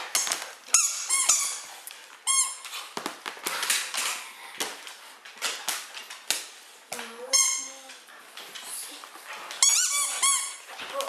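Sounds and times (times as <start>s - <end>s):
dog claws on wooden floor: 0.0s - 11.0s.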